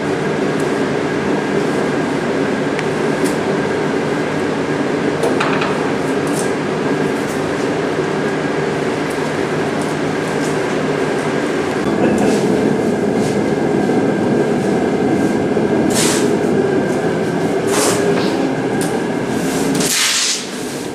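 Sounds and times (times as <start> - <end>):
motor-driven machine whining and humming: 0.0 - 19.8.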